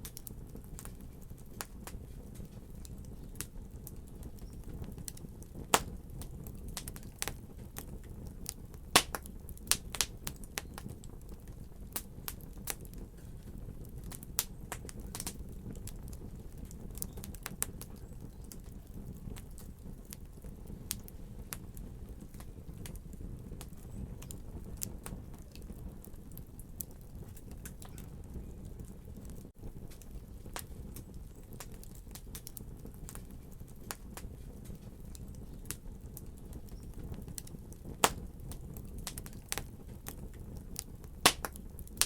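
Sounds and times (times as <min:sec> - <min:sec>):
fireplace fire crackling: 0:00.0 - 0:42.0.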